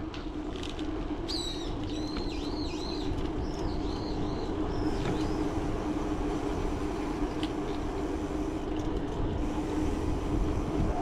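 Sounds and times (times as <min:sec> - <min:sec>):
bicycle rolling on pavement: 0:00.0 - 0:11.0.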